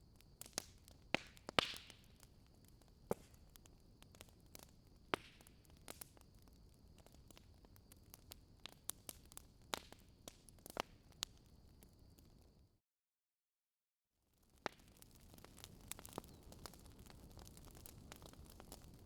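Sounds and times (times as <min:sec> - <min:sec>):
wood fire crackling: 0:00.0 - 0:12.5, 0:14.4 - 0:19.0.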